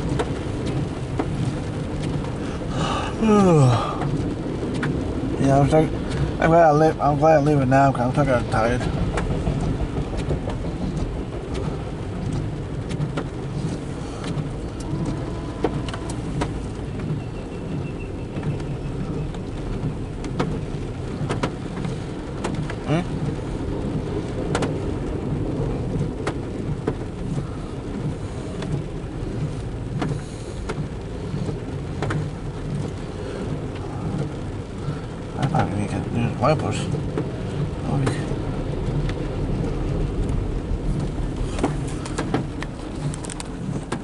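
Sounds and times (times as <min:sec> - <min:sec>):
car road and engine rumble: 0:00.0 - 0:44.0
raindrops on glass: 0:00.0 - 0:44.0
windshield wipers ticking: 0:00.0 - 0:44.0.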